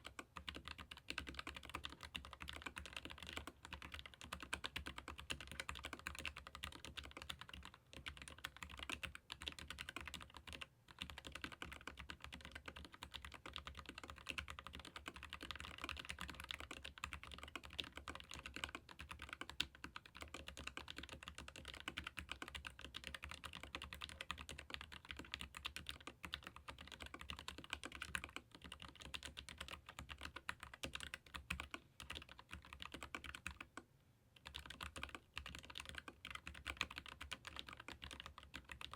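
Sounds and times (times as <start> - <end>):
fast typing on mechanical keyboard: 0.0 - 33.8, 34.4 - 38.9.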